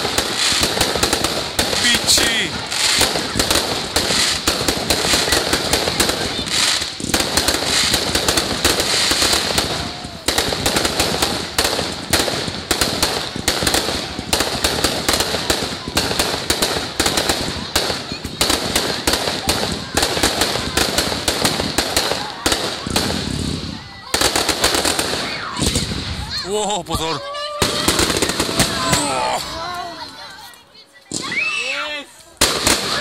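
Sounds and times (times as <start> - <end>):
fireworks bangs and pops: 0.0 - 26.4, 27.4 - 33.0.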